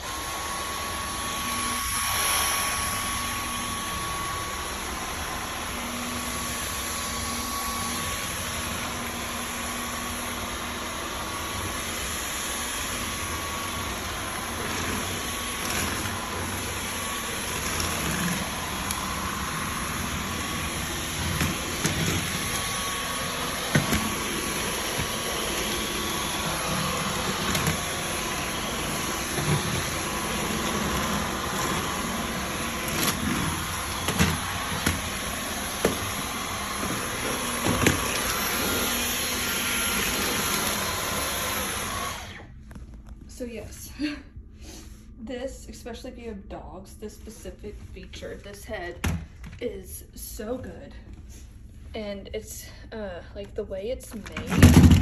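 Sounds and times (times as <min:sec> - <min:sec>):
vacuum cleaner running: 0:00.0 - 0:43.6, 0:54.2 - 0:55.0.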